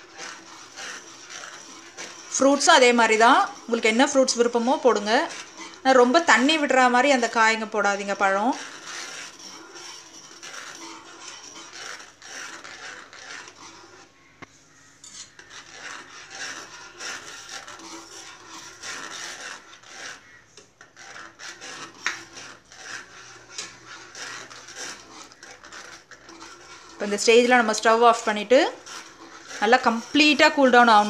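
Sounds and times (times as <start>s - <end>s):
spoon scraping bottom of pan: 0.0s - 31.0s.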